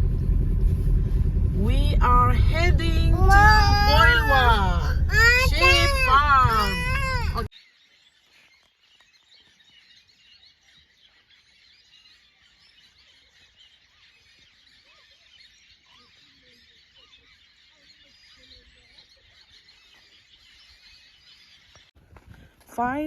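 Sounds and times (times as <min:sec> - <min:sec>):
faint birds chirping: 0:00.6 - 0:22.9.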